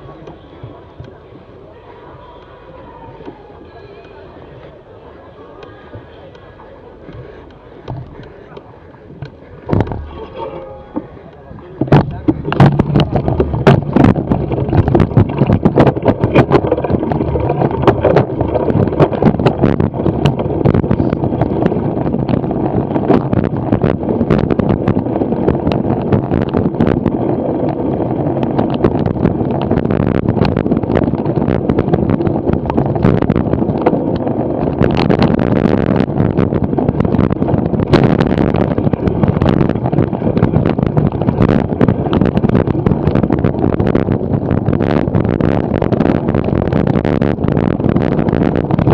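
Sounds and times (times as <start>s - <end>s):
bicycle tyre rumble: 0.0s - 48.9s
wind buffeting microphone: 0.0s - 48.9s
bike knocks and rattles: 7.0s - 48.9s.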